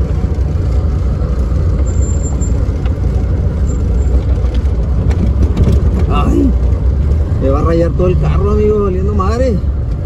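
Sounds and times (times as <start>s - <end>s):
off-road vehicle low rumble: 0.0s - 10.0s.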